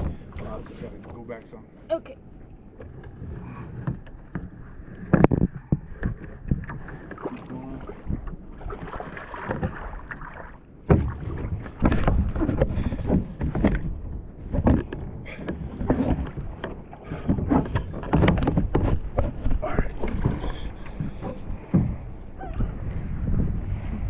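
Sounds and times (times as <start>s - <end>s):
water lapping at boat: 0.0s - 24.0s
paddle splashing in water: 2.0s - 24.0s
paddle knocking on plastic hull: 2.8s - 23.5s.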